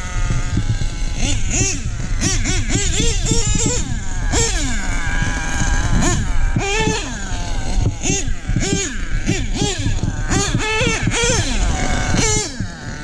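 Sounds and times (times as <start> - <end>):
model engine revving: 0.0 - 13.0.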